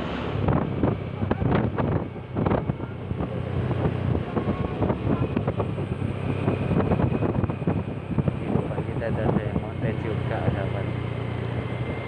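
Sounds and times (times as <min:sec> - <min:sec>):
low engine hum: 0:00.0 - 0:12.0
wind buffeting microphone: 0:00.0 - 0:12.0.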